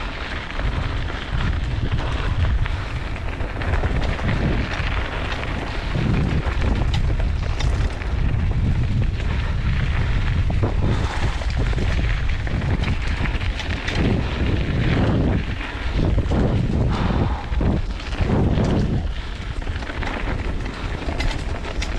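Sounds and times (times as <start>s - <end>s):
bike rattling and knocking: 0.0s - 21.9s
tyres rumbling on dirt: 0.0s - 21.9s
wind rushing over microphone: 0.0s - 21.9s.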